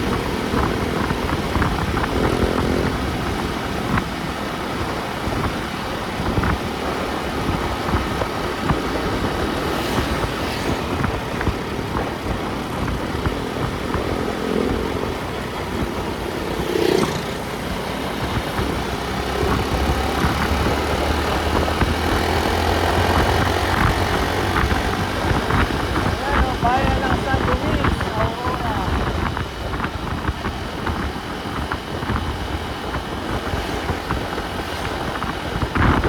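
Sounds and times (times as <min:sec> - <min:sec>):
vehicle road and engine noise: 0:00.0 - 0:36.0.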